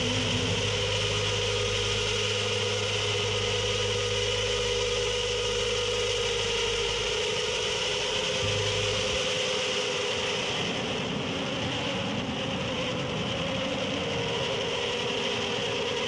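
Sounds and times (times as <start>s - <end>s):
electric guitar feedback drone: 0.0s - 16.0s.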